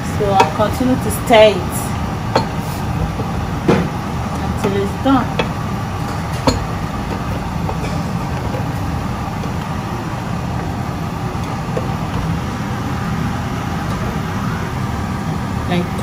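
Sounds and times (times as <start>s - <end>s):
extractor hood fan humming: 0.0s - 16.0s.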